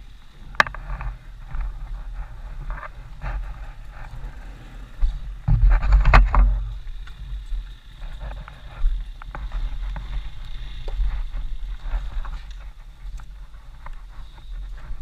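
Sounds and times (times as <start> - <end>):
helmet camera rumble: 0.1 - 15.0
dirt bike scraping and knocking: 0.2 - 15.0.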